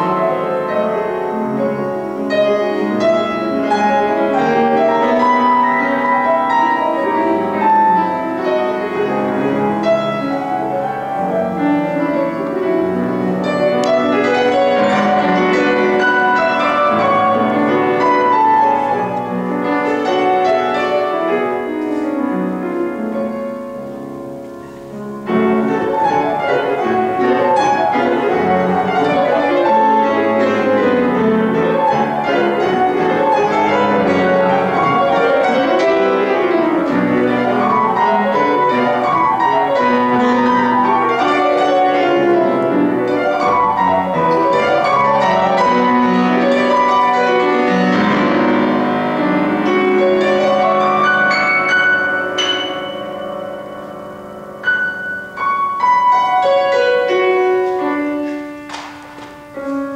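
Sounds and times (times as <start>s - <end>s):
solo classical piano piece: 0.0s - 59.9s.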